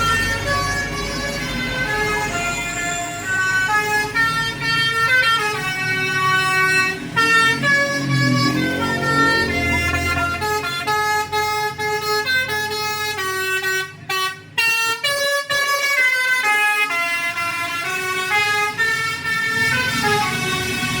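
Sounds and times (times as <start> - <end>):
multi-tone bus air horn melody: 0.0 - 21.0.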